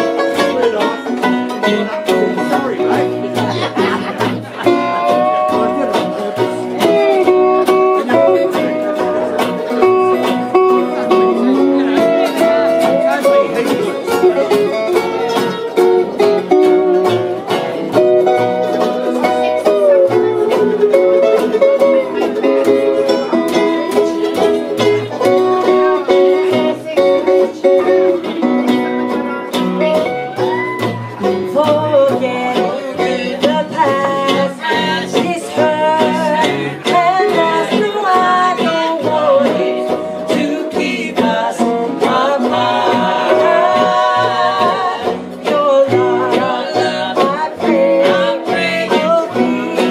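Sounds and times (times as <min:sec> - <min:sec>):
person singing: 0:00.0 - 0:29.6, 0:30.4 - 0:49.9
banjo: 0:00.0 - 0:49.9
resonator steel guitar: 0:00.0 - 0:49.9
string band playing: 0:00.0 - 0:49.9.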